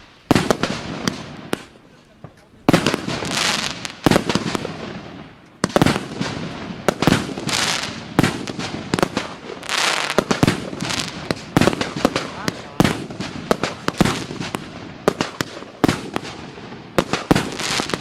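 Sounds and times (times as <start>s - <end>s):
hiss of bursting fireworks: 0.0s - 18.0s
firework launch bangs: 2.6s - 18.0s.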